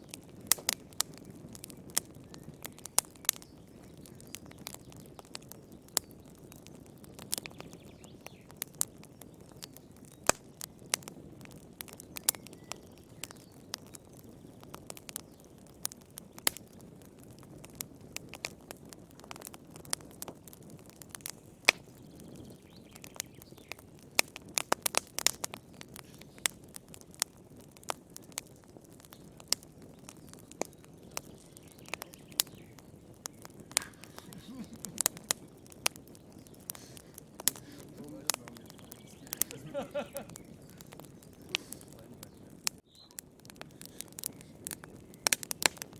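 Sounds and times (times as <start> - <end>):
campfire crackling: 0.0 - 45.9
fire popping: 0.0 - 45.9.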